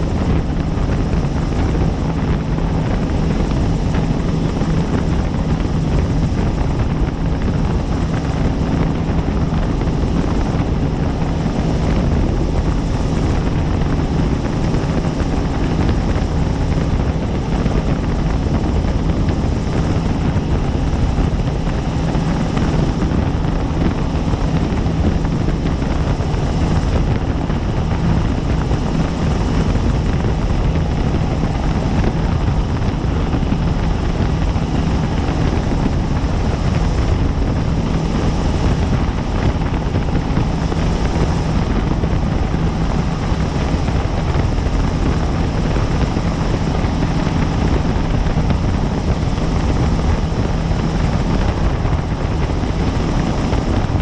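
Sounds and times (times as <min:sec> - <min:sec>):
helicopter in flight: 0:00.0 - 0:54.0.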